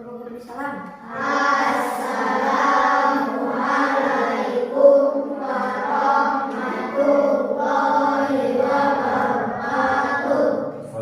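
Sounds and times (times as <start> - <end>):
children chanting prayer in unison: 0.0 - 11.0.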